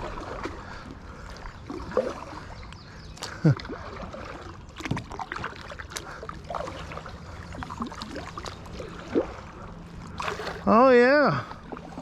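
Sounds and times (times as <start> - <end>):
water lapping and gurgling: 0.0 - 12.0.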